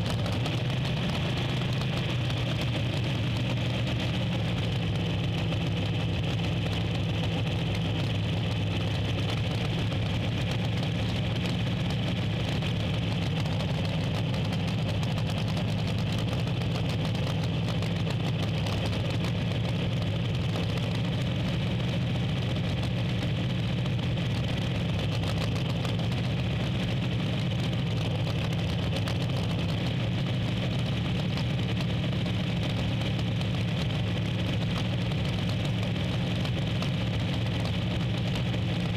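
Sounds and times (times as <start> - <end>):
racing car engine idling: 0.0 - 38.9.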